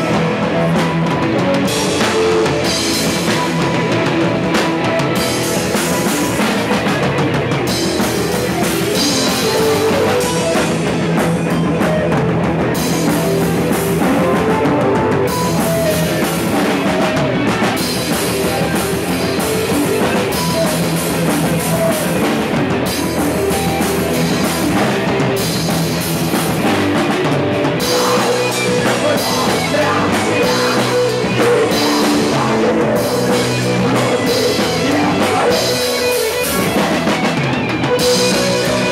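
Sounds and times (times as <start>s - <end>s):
rock band playing instrumental: 0.0s - 38.9s.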